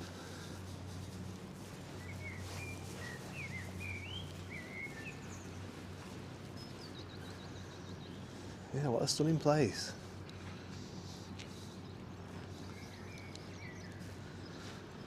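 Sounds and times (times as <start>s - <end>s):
songbirds chirping: 0.0s - 15.0s
steady low outdoor hum: 0.0s - 15.0s.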